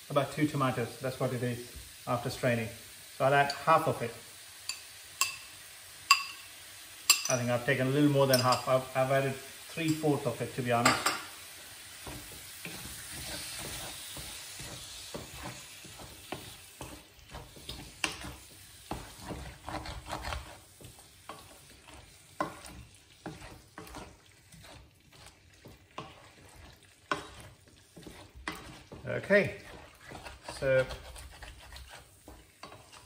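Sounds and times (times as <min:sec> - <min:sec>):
meat sizzling: 0:00.0 - 0:33.0
spoon scraping frying pan: 0:04.6 - 0:33.0.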